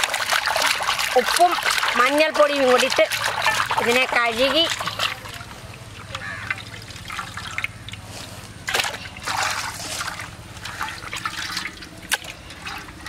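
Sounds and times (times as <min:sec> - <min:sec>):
water splashing in a bowl: 0:00.0 - 0:13.0.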